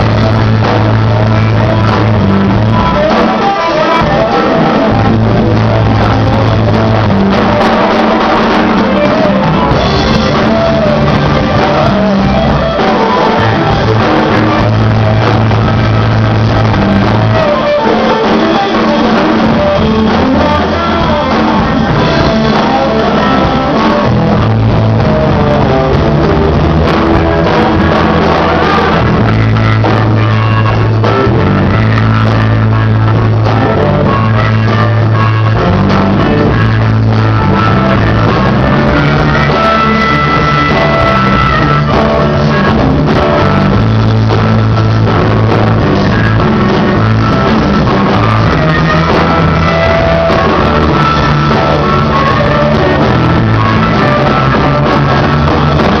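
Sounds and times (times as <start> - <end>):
person singing: 0.0 - 56.0
rock band playing: 0.0 - 56.0
walking bass line: 0.0 - 56.0.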